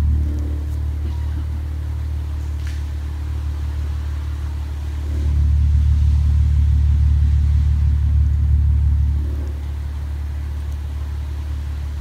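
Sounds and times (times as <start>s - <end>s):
car engine idling deep rumble: 0.0s - 12.0s.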